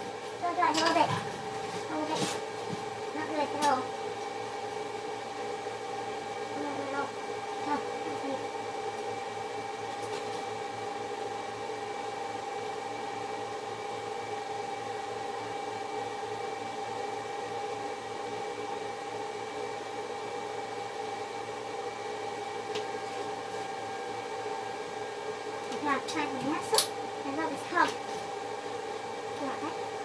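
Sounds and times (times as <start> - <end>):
machine humming with whine: 0.0 - 30.0.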